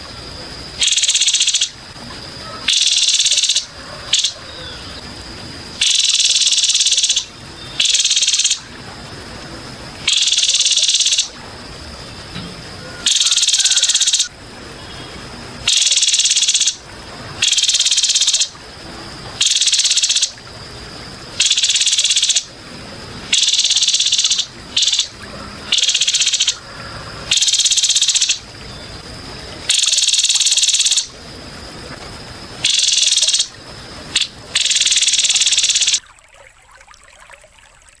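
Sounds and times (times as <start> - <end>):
insect pulsed buzzing call: 0.0 - 36.7.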